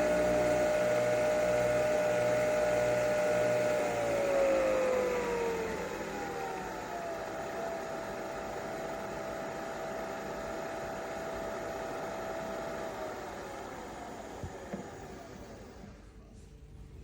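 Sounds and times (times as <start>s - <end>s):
coffee machine motor whine: 0.0s - 16.8s.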